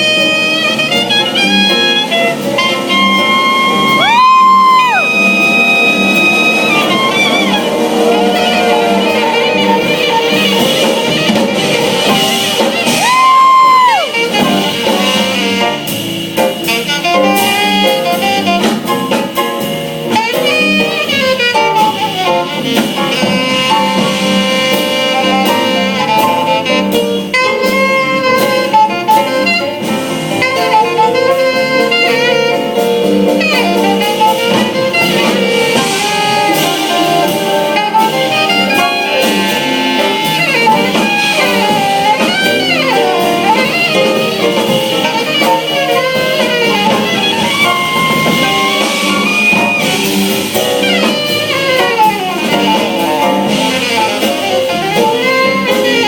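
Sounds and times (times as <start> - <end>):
drums: 0.0 - 56.0
jazz band playing: 0.0 - 56.0
saxophone solo: 0.0 - 56.0.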